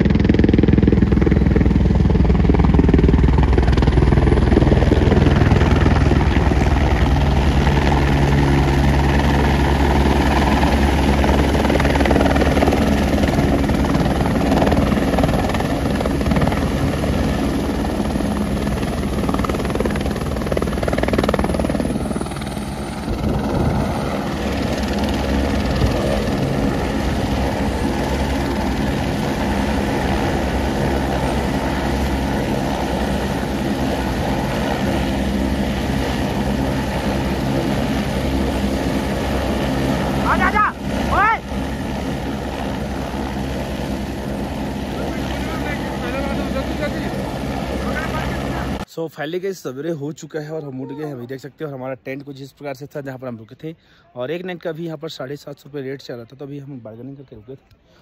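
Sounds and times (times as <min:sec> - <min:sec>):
helicopter rotor and engine: 0:00.0 - 0:48.9.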